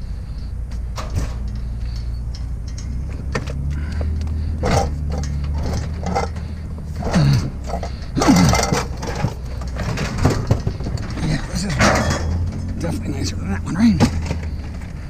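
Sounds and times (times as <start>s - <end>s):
engine running: 0.0s - 15.0s
scrap metal clanking: 0.7s - 15.0s.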